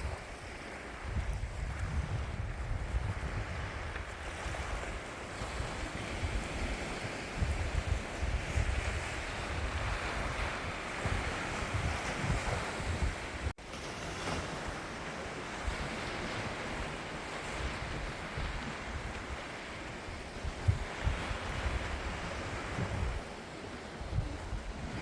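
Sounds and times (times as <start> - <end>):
sea surf washing in: 0.0 - 25.0
wind buffeting microphone: 0.0 - 25.0.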